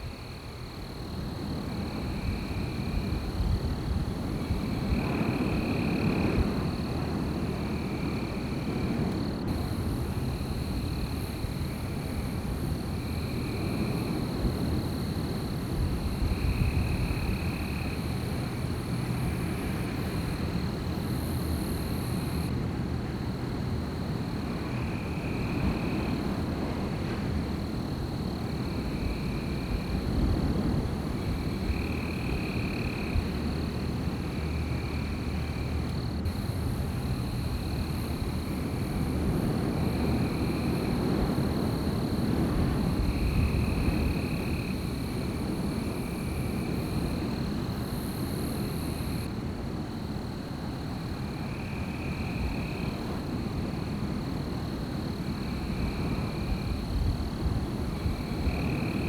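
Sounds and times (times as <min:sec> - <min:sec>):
wind blowing in forest: 0:00.0 - 0:59.0.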